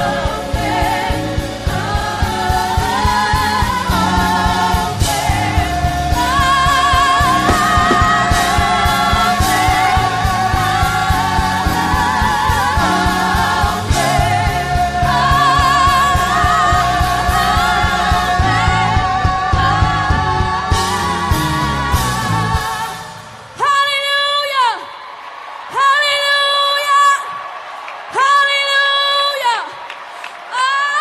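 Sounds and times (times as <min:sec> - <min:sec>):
worship song with band: 0:00.0 - 0:27.5.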